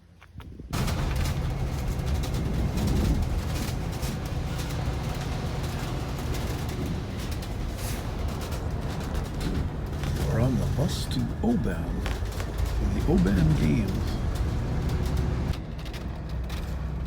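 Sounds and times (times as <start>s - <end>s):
bus engine running: 0.0s - 17.0s
road rumble: 0.0s - 17.0s
rattles: 0.2s - 17.0s.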